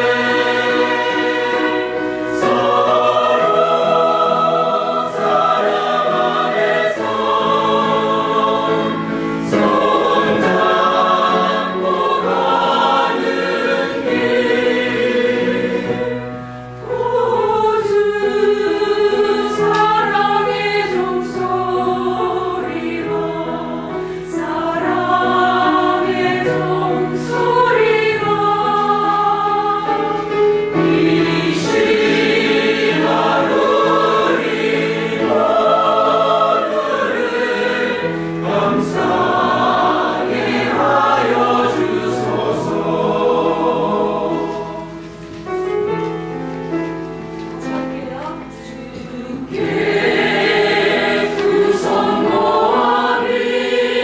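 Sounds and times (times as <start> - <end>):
choir singing gospel: 0.0 - 46.5, 48.1 - 54.0.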